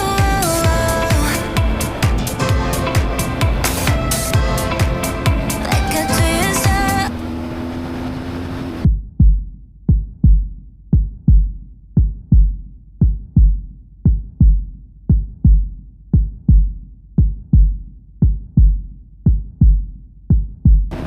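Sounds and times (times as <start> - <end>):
low heartbeat-like double thumps: 0.0 - 6.9, 8.8 - 20.9.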